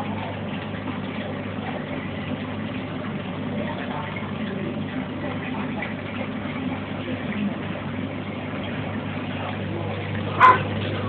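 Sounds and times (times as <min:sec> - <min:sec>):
aquarium pump humming: 0:00.0 - 0:11.0.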